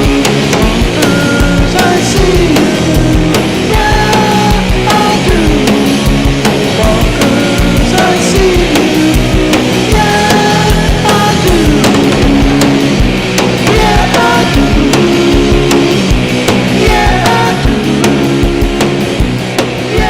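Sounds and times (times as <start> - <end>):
instrumental rock music: 0.0 - 20.0
sliding lead guitar notes: 0.0 - 20.0.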